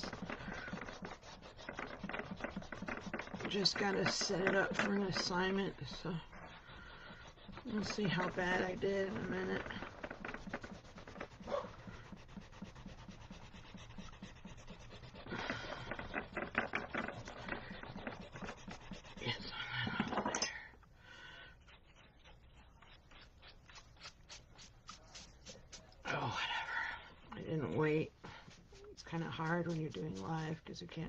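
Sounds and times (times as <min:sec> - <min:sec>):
eraser rubbing on paper: 0:00.0 - 0:20.3, 0:21.6 - 0:26.2, 0:27.4 - 0:31.0.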